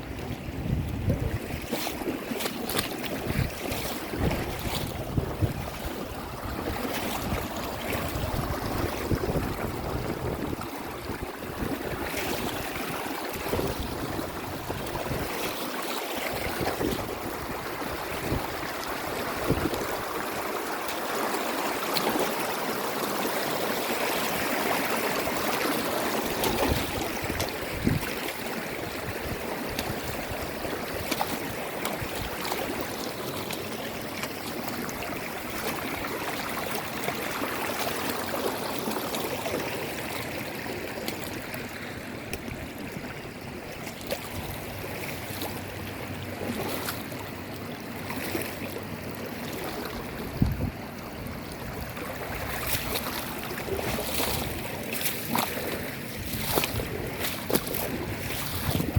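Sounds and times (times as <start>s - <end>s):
small water splashes: 0.0s - 58.9s
stream of water flowing: 0.0s - 58.9s.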